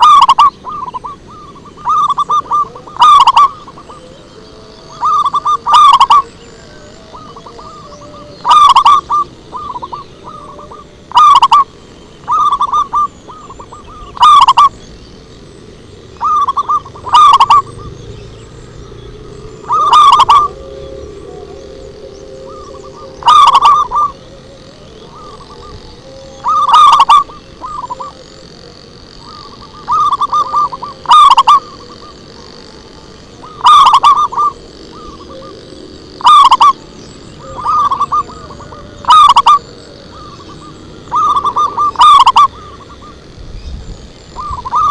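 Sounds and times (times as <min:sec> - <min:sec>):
dove cooing: 0:00.0 - 0:15.0, 0:15.9 - 0:44.9.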